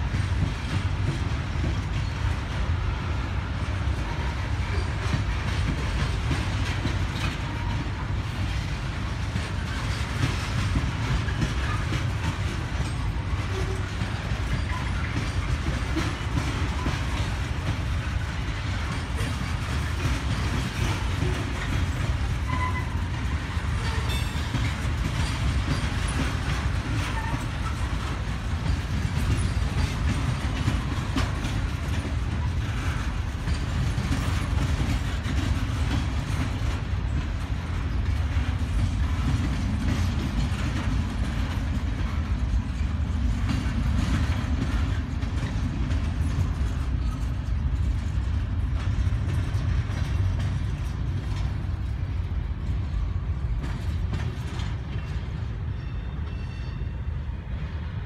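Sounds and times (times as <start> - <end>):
steel wheels rumbling on rail: 0.0 - 58.0
train wheels clicking and clanking: 0.0 - 58.0.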